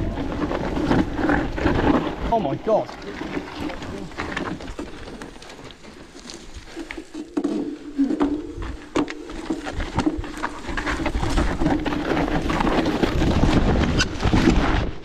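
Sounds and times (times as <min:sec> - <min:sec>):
bike frame and chain rattling: 0:00.0 - 0:14.9
bike tyres over rocks: 0:00.0 - 0:15.0
wind rumbling on microphone: 0:00.0 - 0:15.0.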